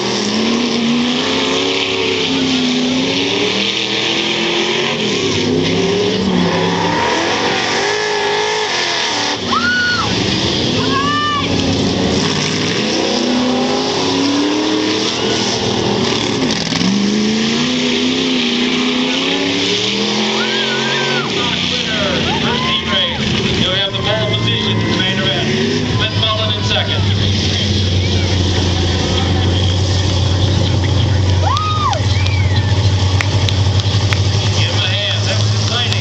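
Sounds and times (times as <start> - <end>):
racing car engines: 0.0 - 36.0.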